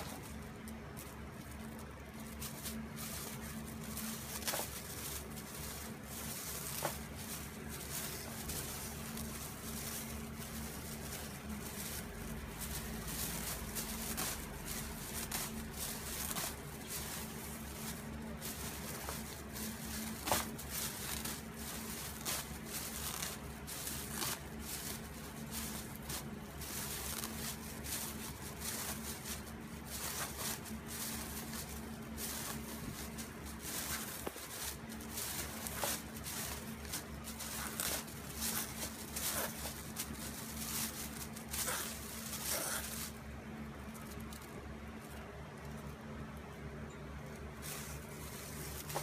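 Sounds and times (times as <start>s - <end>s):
plastic bag crinkling: 0.0s - 46.0s, 47.2s - 49.0s.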